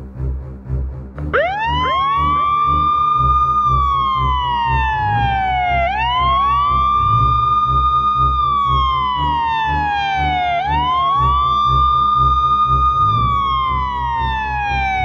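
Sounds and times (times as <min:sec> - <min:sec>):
background music with low beat: 0:00.0 - 0:15.0
emergency vehicle sirens wailing: 0:01.2 - 0:15.0.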